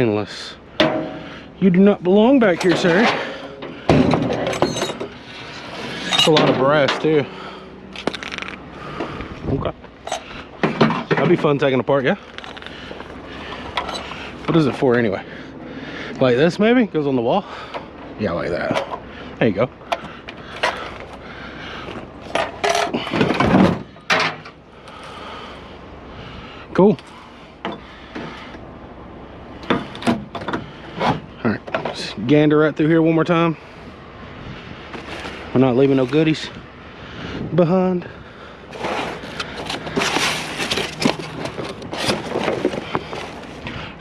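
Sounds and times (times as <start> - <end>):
junk rustling and scraping: 0.0 - 16.4, 17.4 - 28.8, 29.5 - 36.7, 38.1 - 44.0.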